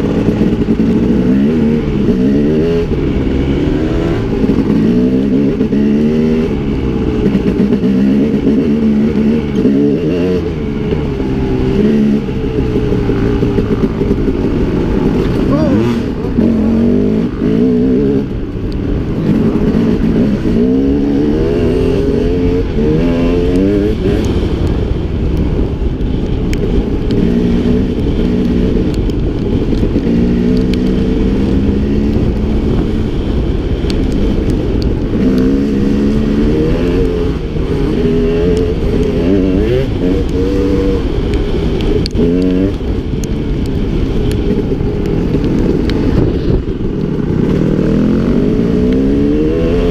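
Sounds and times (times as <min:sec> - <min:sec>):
dirt bike engine revving: 0:00.0 - 0:24.5, 0:29.9 - 0:42.9, 0:44.0 - 0:49.9.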